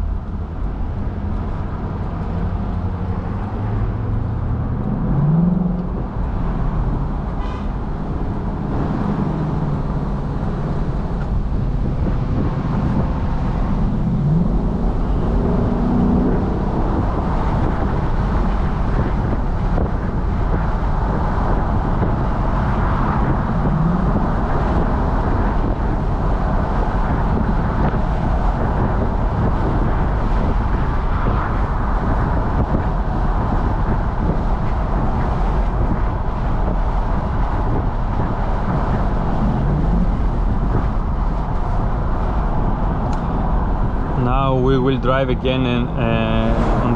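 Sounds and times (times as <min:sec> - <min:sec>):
car engine: 0:00.0 - 0:46.9
road noise: 0:00.0 - 0:46.9
wind noise: 0:00.0 - 0:46.9.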